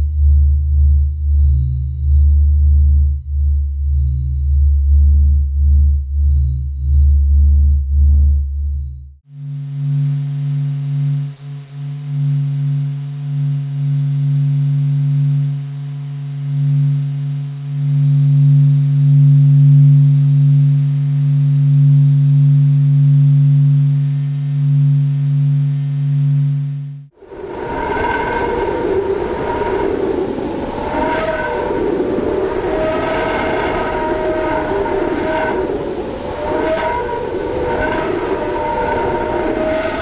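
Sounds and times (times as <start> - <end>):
low droning hum: 0.0 - 40.0
low pulsing tone: 0.0 - 40.0.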